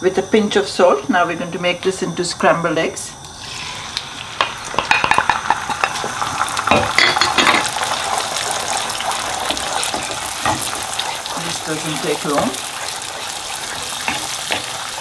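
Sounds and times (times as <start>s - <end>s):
eggs sizzling in oil: 0.3s - 15.0s.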